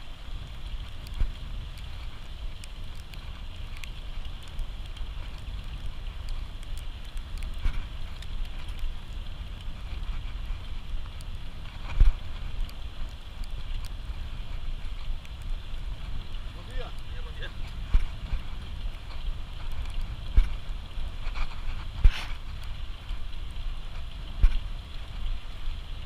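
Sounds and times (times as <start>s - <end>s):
constant hiss: 0.0s - 26.0s
wind buffeting microphone: 0.0s - 26.0s.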